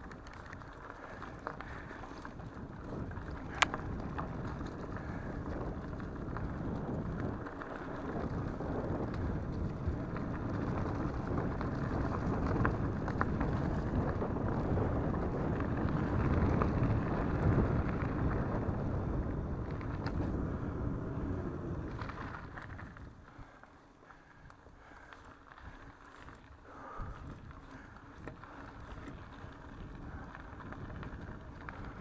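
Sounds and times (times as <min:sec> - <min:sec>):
bike tyres rumbling on trail: 0:00.0 - 0:32.0
wind on microphone: 0:01.0 - 0:32.0.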